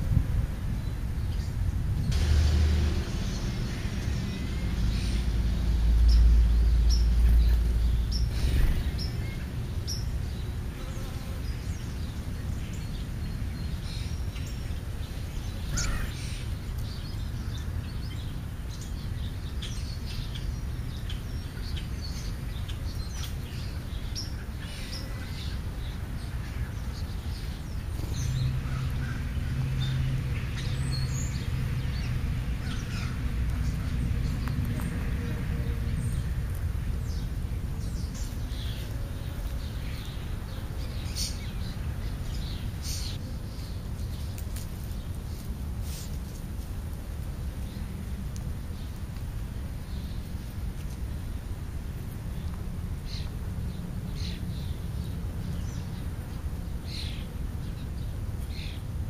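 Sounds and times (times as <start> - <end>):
low steady hum: 0.0 - 59.0
passing traffic rumble: 0.0 - 59.0
small birds chirping: 0.7 - 46.7, 47.4 - 59.0.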